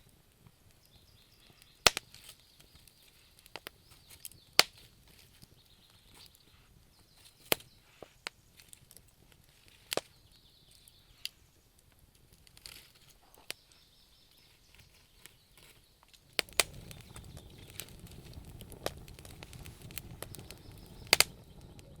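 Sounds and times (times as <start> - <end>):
low rumble of flames: 0.0 - 13.0, 15.6 - 22.0
wood fire crackling and popping: 0.0 - 22.0.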